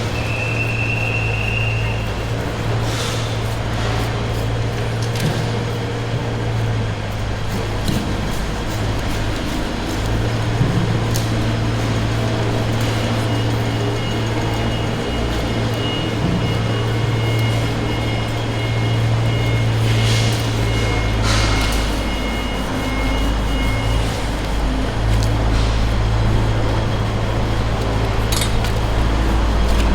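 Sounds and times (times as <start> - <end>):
low machine hum: 0.0 - 29.9.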